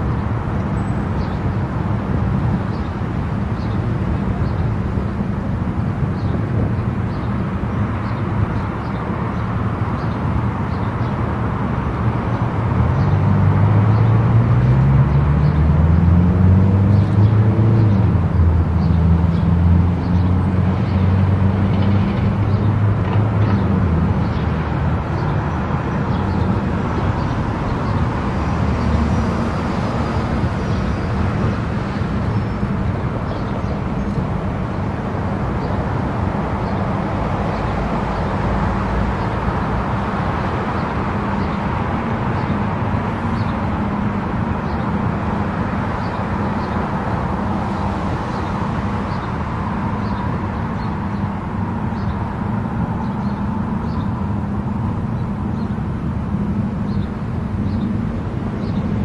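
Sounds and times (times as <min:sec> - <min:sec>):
vehicle driving at highway speed: 0:00.0 - 0:59.0.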